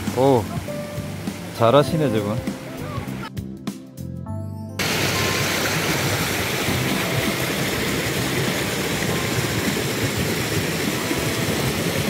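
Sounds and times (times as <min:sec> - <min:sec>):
stream water rushing: 0:00.0 - 0:03.3, 0:04.8 - 0:12.0.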